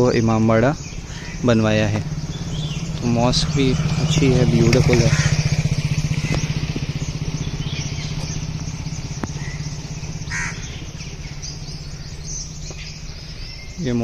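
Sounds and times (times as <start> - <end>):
bird calling: 0.0 - 14.0
vehicle engine running: 0.0 - 14.0.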